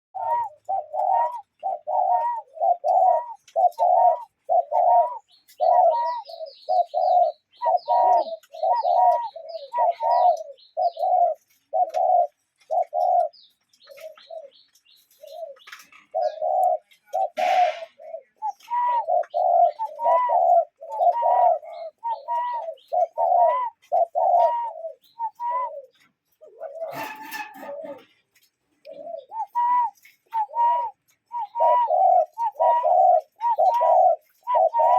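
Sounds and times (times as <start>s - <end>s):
cuckoo calling: 0.2s - 34.9s
small bird chirping: 0.2s - 34.9s.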